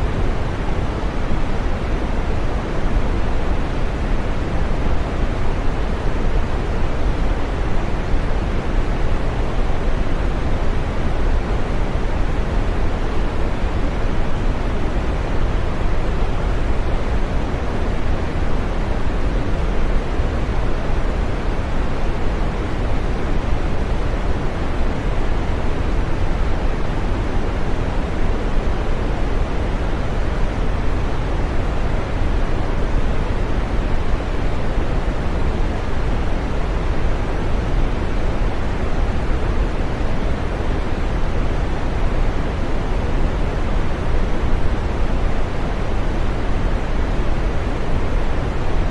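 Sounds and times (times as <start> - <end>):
steady green noise hiss: 0.0 - 48.9.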